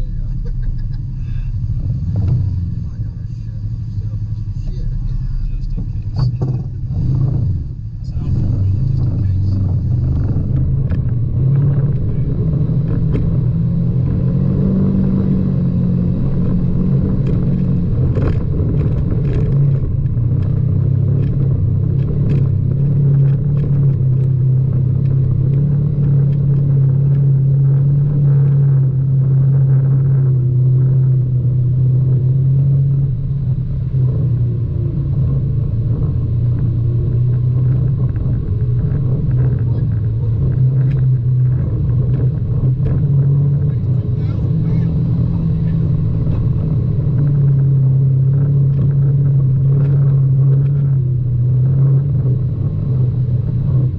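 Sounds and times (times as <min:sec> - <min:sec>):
utility vehicle engine running: 0:00.0 - 0:53.9.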